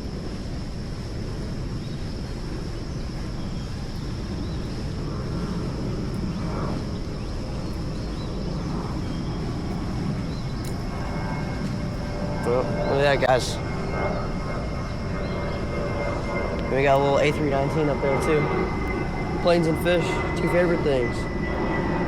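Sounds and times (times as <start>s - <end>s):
jet airliner flying overhead: 0.0s - 22.0s.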